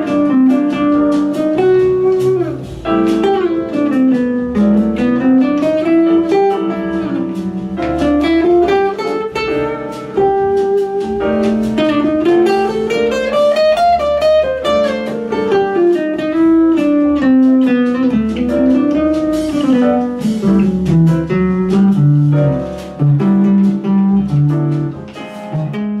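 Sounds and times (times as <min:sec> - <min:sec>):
guitar playing plucked melody: 0:00.0 - 0:26.0.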